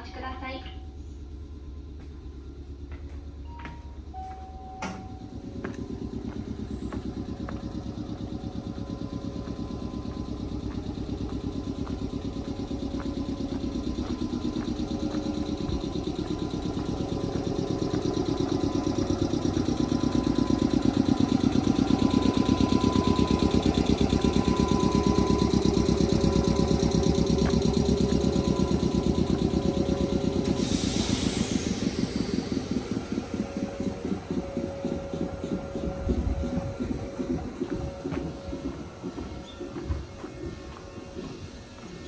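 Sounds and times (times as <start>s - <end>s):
electric train motor pulsing: 0.0s - 42.0s.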